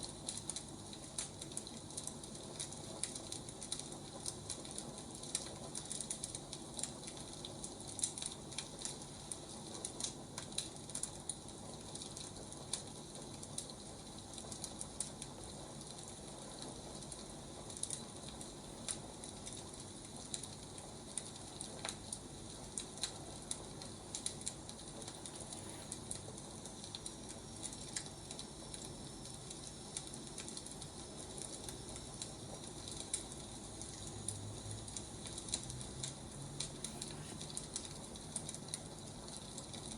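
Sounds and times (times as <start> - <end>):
firewood crackling and snapping: 0.0 - 39.9
soft fire hiss: 0.0 - 39.9.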